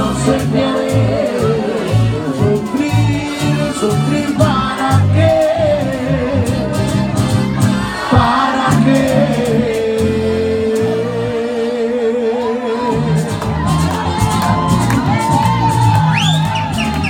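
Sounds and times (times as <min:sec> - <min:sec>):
bass notes: 0:00.0 - 0:17.0
live band music: 0:00.0 - 0:17.0.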